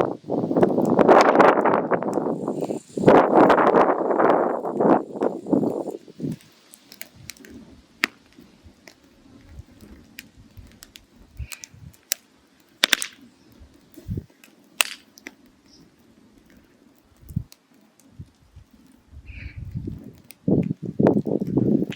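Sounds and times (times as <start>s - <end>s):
firewood crackling and popping: 0.0s - 21.9s.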